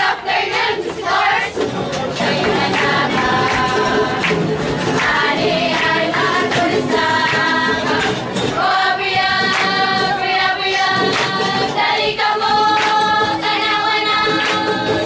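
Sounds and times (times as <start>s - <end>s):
girls' choir singing: 0.0s - 15.0s.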